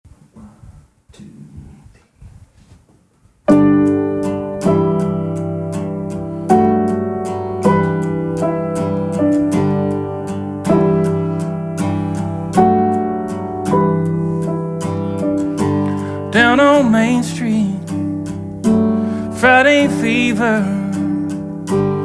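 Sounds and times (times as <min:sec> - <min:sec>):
upright piano chords: 0:03.5 - 0:22.0.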